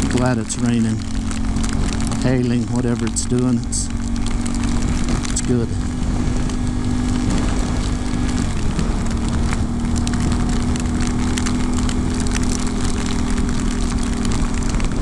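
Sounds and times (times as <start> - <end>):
motorcycle engine running: 0.0 - 15.0
rain ticking: 0.0 - 15.0.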